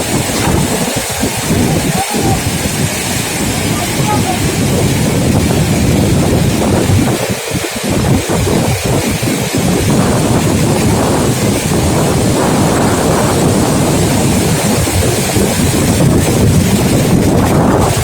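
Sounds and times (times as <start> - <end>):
waterfall roaring: 0.0 - 18.0
wind buffeting microphone: 0.0 - 18.0.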